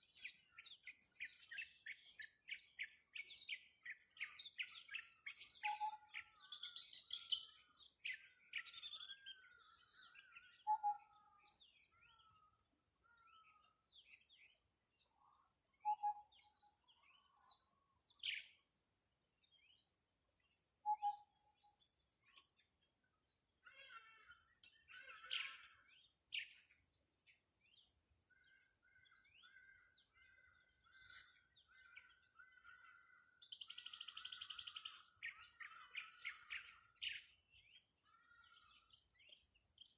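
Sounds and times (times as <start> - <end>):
birds chirping and trilling: 0.0 - 39.9
dense steady bird trill: 0.0 - 39.9.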